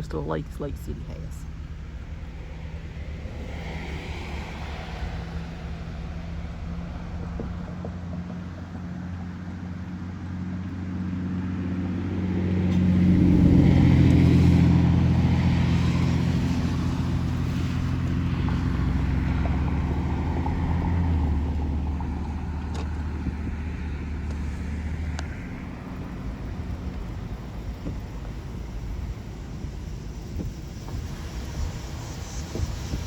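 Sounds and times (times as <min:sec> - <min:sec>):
car engine hum: 0:00.0 - 0:33.0
road noise rushing: 0:00.0 - 0:33.0.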